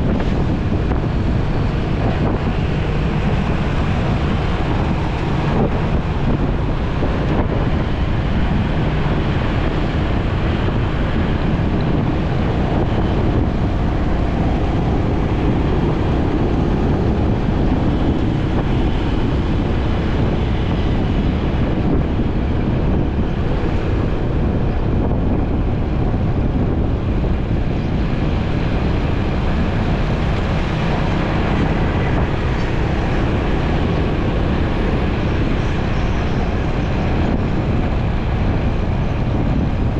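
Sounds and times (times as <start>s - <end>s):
motorcycle engine running: 0.0s - 39.9s
road noise: 0.0s - 39.9s
wind rush on microphone: 0.0s - 39.9s.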